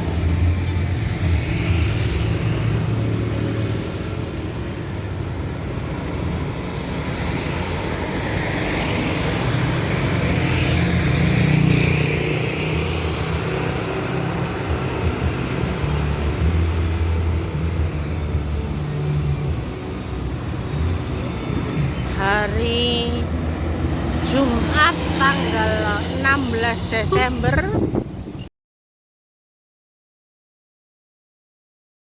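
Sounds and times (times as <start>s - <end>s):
road traffic rumble: 0.0s - 28.5s.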